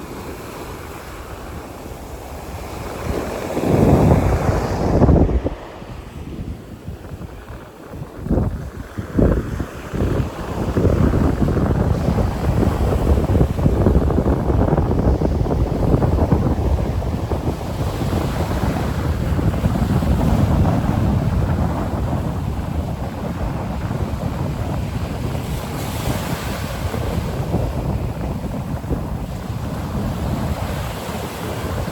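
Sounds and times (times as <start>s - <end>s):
small waves washing onto beach: 0.0s - 31.9s
wind buffeting microphone: 0.0s - 31.9s.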